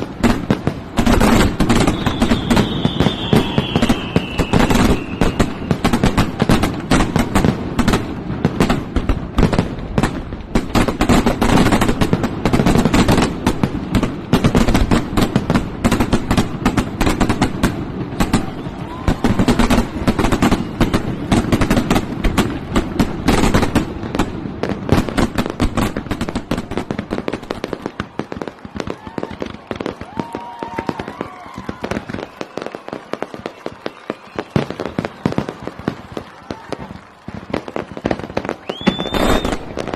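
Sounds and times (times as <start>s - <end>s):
crackling firework bangs: 0.0s - 39.9s.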